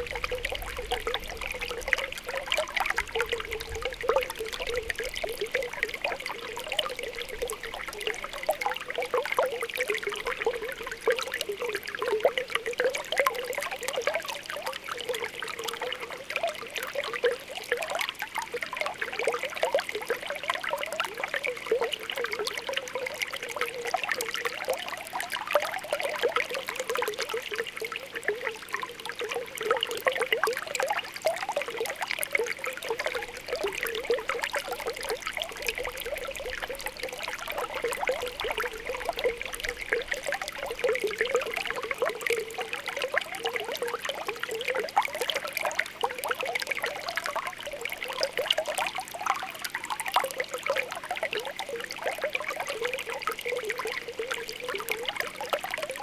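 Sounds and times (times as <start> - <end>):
spring water bubbling: 0.0 - 56.0.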